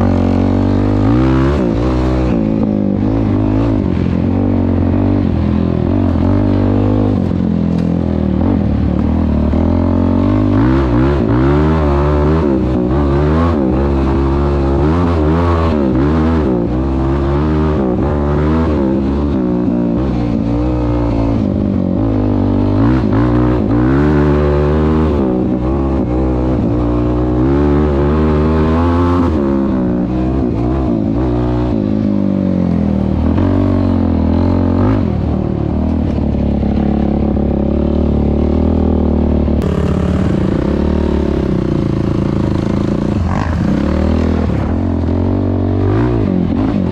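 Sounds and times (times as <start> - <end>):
quad engine revving: 0.0 - 46.9.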